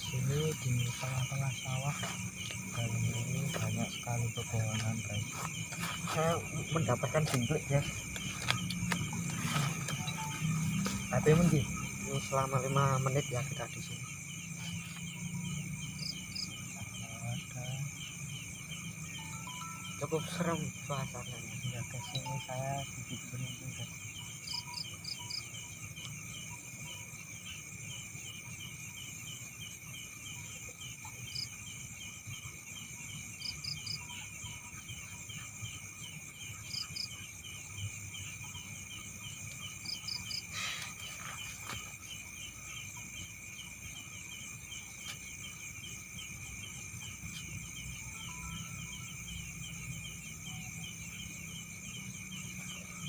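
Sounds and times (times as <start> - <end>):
crickets trilling: 0.0 - 53.0
high insect chirps: 0.0 - 53.0.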